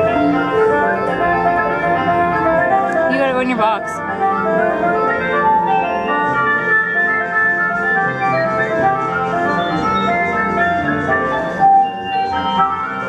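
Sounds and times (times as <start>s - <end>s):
organ-like keyboard melody: 0.0s - 13.0s.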